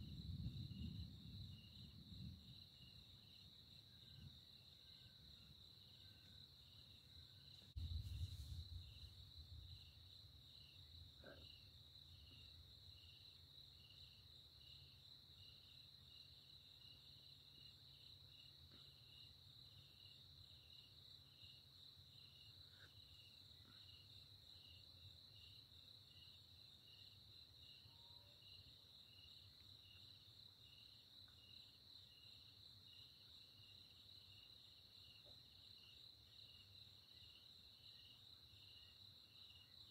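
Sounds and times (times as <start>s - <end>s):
night insects trilling: 0.0s - 39.9s
soft insect chirp: 0.0s - 39.9s.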